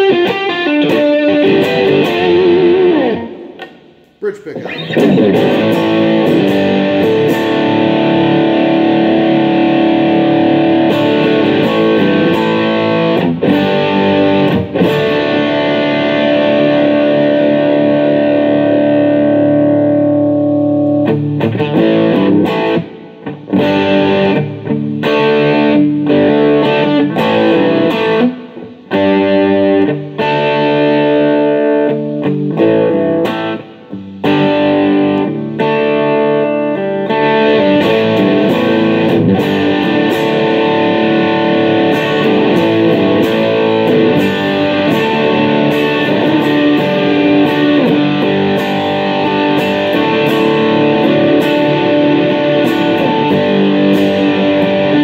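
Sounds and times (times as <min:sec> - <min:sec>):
overdriven electric guitar: 0:00.0 - 0:55.0.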